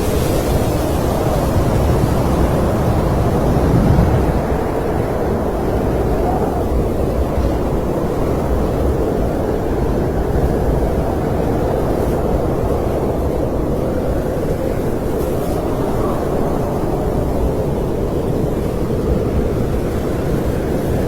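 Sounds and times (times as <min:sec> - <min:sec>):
wind blowing steadily: 0:00.0 - 0:21.0.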